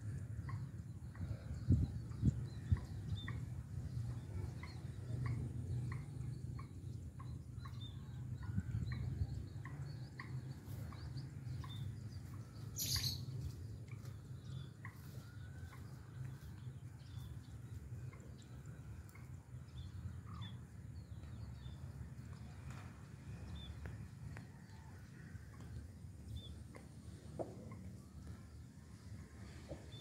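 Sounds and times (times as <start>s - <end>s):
steady low rumble: 0.0s - 30.0s
birds chirping: 0.2s - 30.0s.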